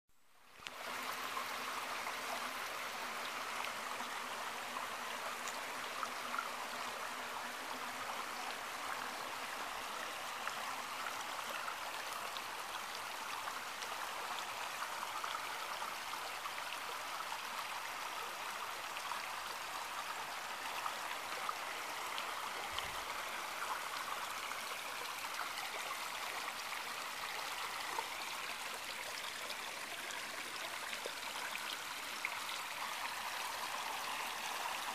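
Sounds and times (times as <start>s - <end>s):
brook running: 0.5s - 34.9s.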